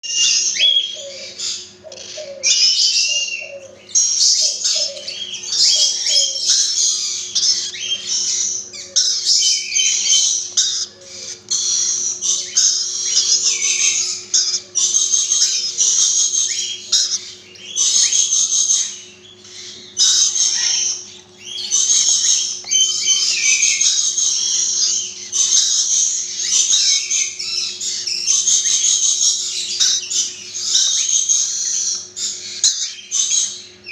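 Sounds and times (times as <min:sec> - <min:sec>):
low steady hum: 0:00.1 - 0:33.9
parrots chattering shrilly: 0:00.1 - 0:33.9.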